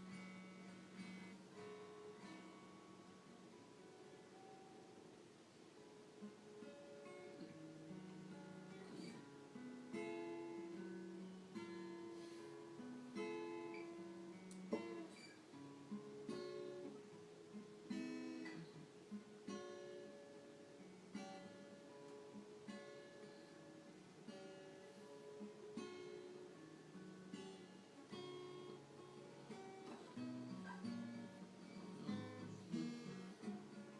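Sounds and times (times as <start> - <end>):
acoustic guitar chords: 0.0 - 33.9.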